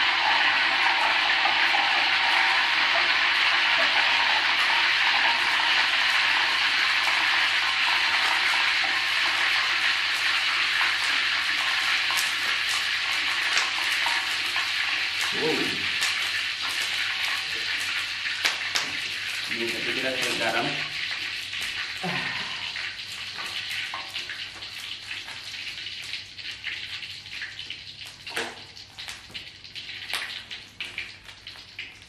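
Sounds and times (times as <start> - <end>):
oil sizzling in a wok: 0.0 - 32.0.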